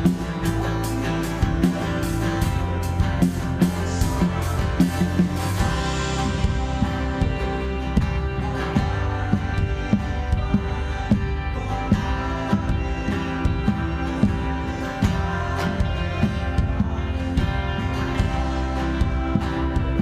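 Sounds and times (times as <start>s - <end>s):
guitar: 0.0s - 20.0s
steady beat: 0.0s - 20.0s
sustained chords: 0.0s - 20.0s.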